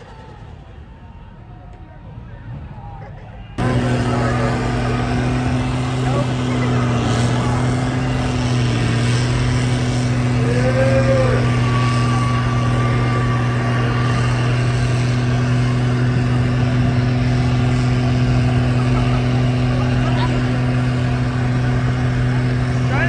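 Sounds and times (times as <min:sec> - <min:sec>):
vehicle engine droning: 0:03.6 - 0:23.0.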